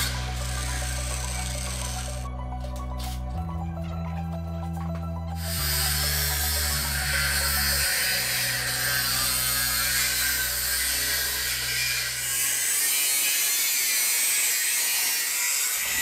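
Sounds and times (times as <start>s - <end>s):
angle grinder grinding steel: 0.0s - 2.3s, 4.7s - 16.0s.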